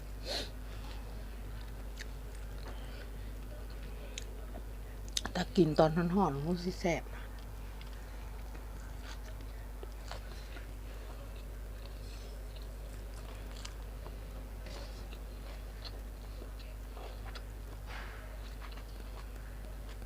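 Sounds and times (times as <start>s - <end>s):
steady low hum: 0.0s - 20.0s
close chewing and mouth smacks: 0.8s - 5.4s, 7.2s - 20.0s.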